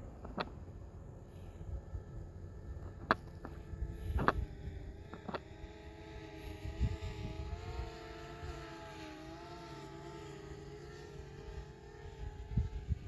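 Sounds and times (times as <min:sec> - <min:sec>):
wind rumble on microphone: 0:00.0 - 0:09.2, 0:11.2 - 0:13.0
drone propellers humming: 0:00.0 - 0:13.0.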